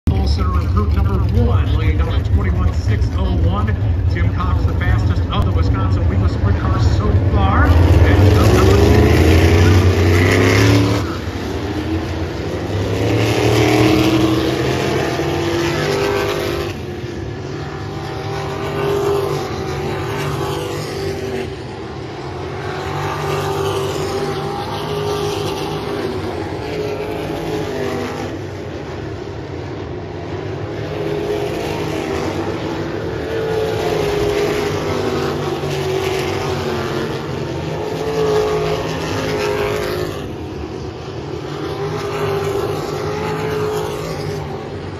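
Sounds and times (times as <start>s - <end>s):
race car engine at speed: 0.0s - 44.9s.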